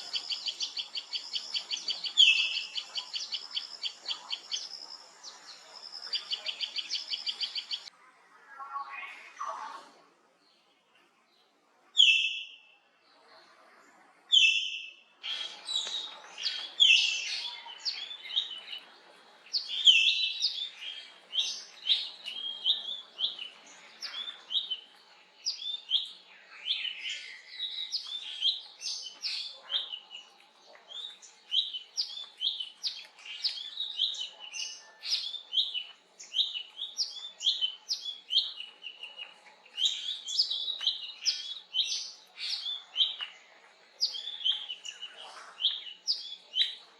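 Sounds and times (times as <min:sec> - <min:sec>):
bird chirping: 0:00.0 - 0:07.9, 0:14.3 - 0:46.9.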